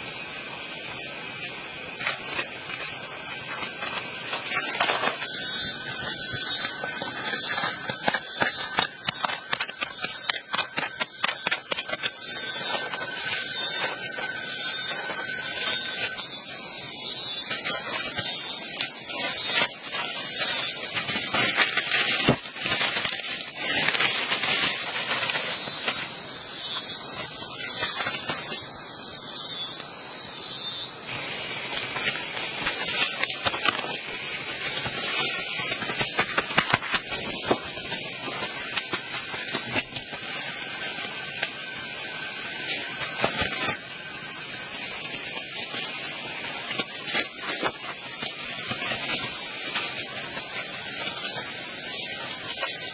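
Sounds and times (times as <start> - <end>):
forest insects buzzing: 0.0 - 52.9
leaves and twigs rustling: 0.0 - 52.9.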